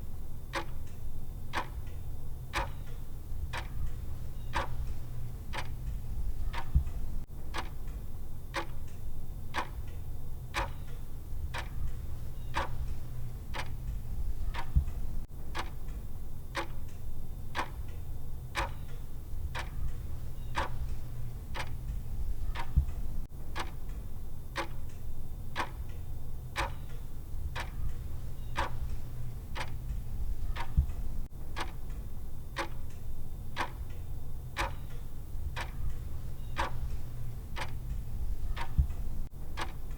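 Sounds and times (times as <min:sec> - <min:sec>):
low steady hum: 0:00.0 - 0:39.9
timer ticking: 0:00.5 - 0:16.0, 0:16.6 - 0:17.0, 0:17.6 - 0:18.0, 0:18.6 - 0:24.0, 0:24.6 - 0:26.0, 0:26.6 - 0:39.9.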